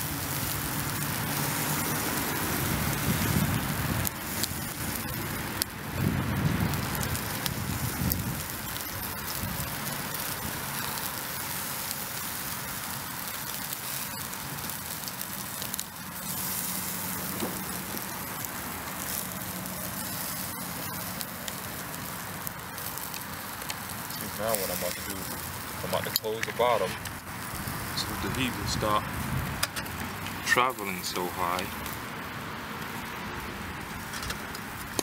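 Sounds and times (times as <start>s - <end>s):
chicken sizzling on a grill: 0.0s - 35.0s
crackling coals: 0.0s - 35.0s.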